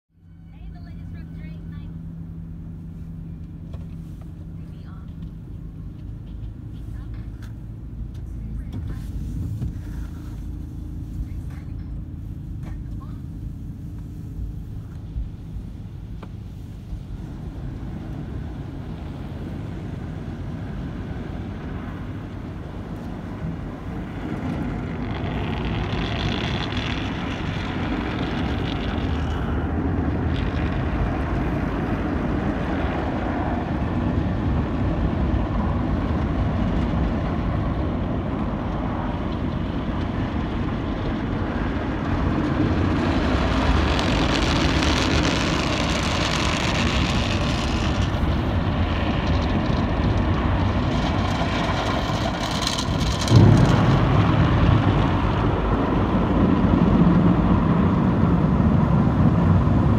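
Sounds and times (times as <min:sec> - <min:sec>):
car wash machinery rumbling hiss: 0:00.4 - 0:59.9.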